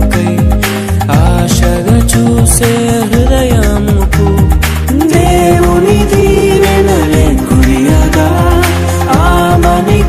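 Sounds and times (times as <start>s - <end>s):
wedding song music with bass: 0.0s - 10.0s.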